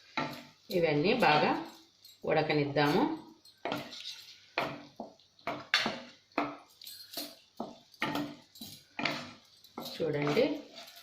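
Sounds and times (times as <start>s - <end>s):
metal spoon clinking against pan: 0.1s - 11.0s.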